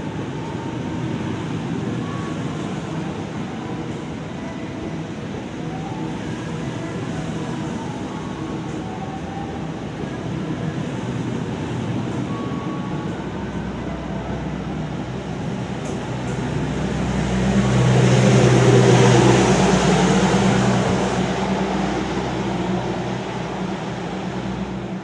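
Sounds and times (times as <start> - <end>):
train coaches rumbling past: 0.0 - 25.0.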